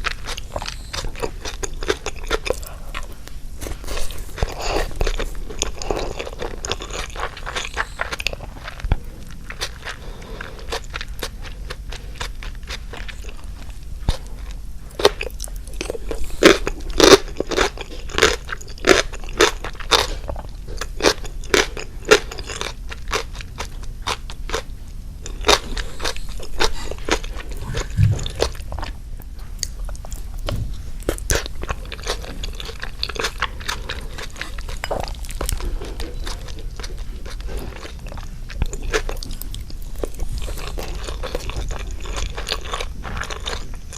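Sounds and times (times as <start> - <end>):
crisp crunching while chewing: 0.0 - 43.9.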